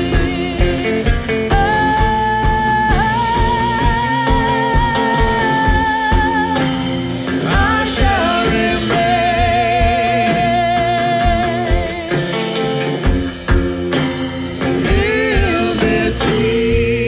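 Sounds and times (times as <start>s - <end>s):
woman singing with vibrato: 0.0s - 12.4s, 14.8s - 17.0s
drum kit beat: 0.0s - 17.0s
electric guitar: 0.0s - 17.0s.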